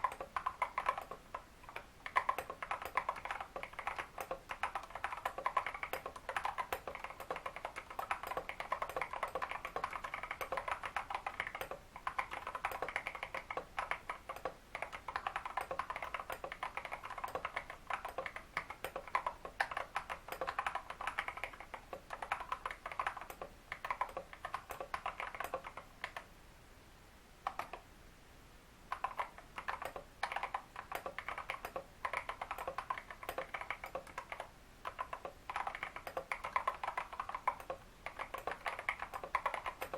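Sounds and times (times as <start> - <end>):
fast typing on mechanical keyboard: 0.0 - 26.3, 28.9 - 39.9.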